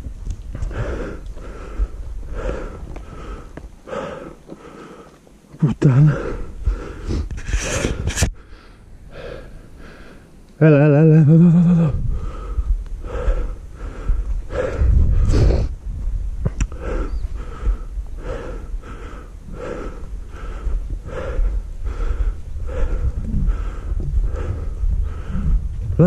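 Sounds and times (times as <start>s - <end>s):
low rumble on microphone: 0.0s - 4.3s, 6.1s - 26.0s
person breathing hard: 0.6s - 5.2s, 6.0s - 10.4s, 11.6s - 15.8s, 16.7s - 25.8s.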